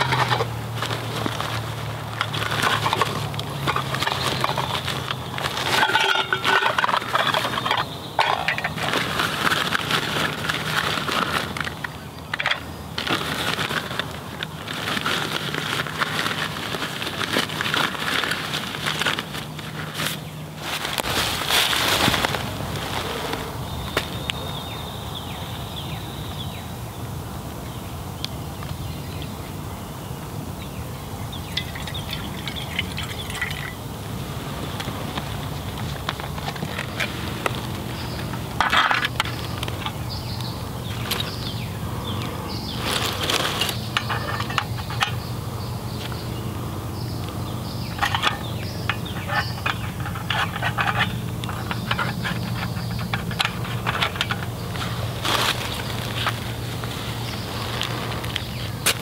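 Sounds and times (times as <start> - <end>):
metal camping gear clinking: 0.0 - 22.4, 31.4 - 33.8, 34.7 - 59.0.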